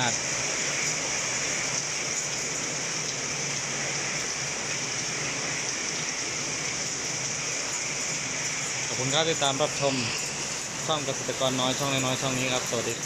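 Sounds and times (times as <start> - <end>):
heavy rain on plants: 0.0 - 13.0.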